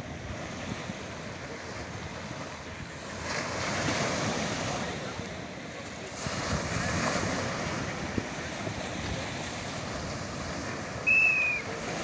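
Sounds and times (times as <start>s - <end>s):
surf breaking on sandy beach: 0.0s - 12.0s
wind buffeting microphone: 0.0s - 12.0s.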